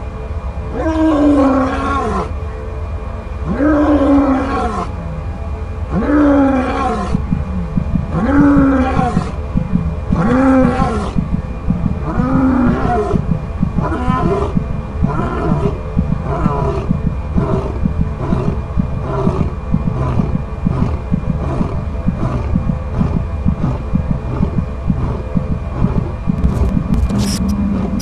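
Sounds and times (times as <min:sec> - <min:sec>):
steady low rumble: 0:00.0 - 0:28.0
large animal roaring: 0:00.7 - 0:02.4, 0:03.4 - 0:05.2, 0:05.9 - 0:26.6.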